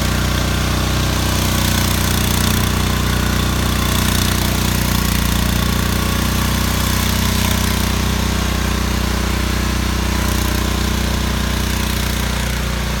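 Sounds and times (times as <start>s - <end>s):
tiller engine running: 0.0s - 13.0s.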